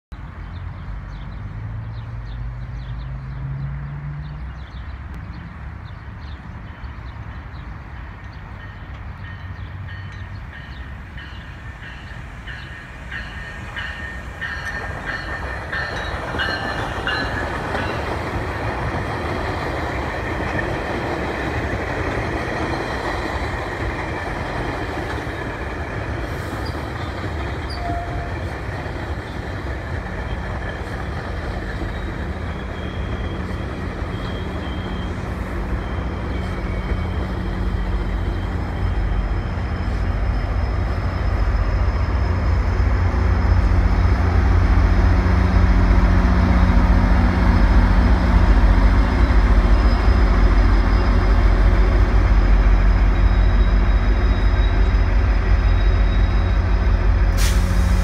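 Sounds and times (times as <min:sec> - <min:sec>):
diesel locomotive drone: 0:00.1 - 0:58.0
train coaches rolling past: 0:00.2 - 0:58.0.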